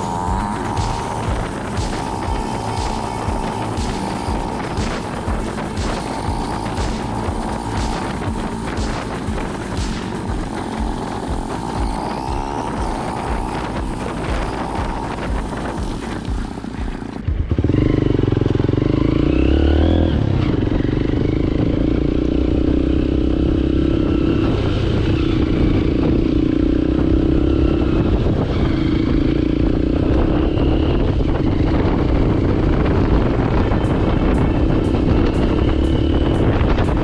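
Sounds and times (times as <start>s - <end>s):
motorcycle engine running: 0.0s - 37.0s
wind noise on microphone: 0.0s - 37.0s.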